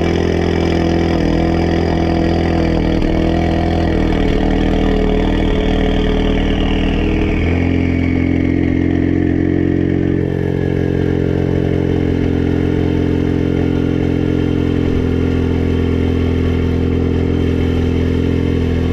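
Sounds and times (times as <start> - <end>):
car exhaust idling: 0.0 - 18.9.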